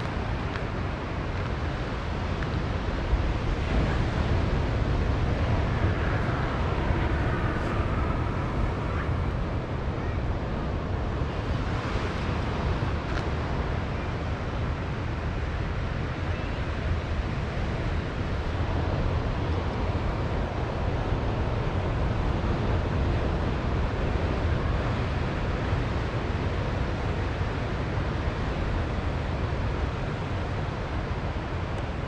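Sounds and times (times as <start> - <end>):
surf washing on beach: 0.0 - 32.0
wind rumbling on microphone: 0.0 - 32.0.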